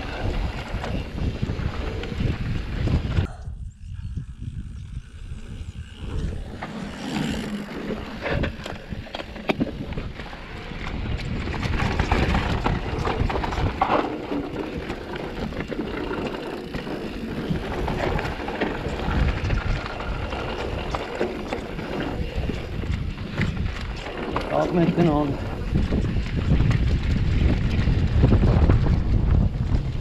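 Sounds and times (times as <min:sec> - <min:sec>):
bike rattling over stones: 0:00.0 - 0:30.0
wind rumbling on microphone: 0:00.0 - 0:30.0.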